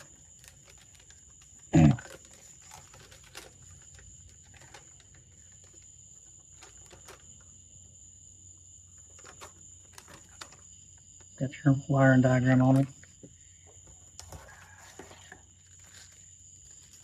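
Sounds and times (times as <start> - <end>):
paper and packaging rustling: 0.0 - 7.6, 8.8 - 10.7, 12.6 - 17.0.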